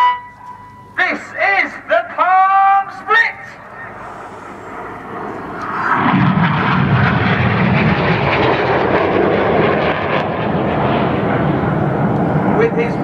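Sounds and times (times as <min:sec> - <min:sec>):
loud jet roar: 0:00.9 - 0:13.0.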